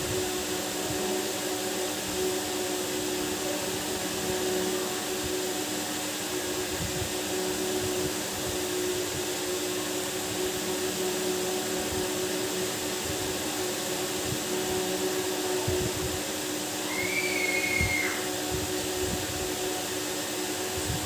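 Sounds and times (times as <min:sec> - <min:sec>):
machine whirring hum with hiss: 0:00.0 - 0:21.0.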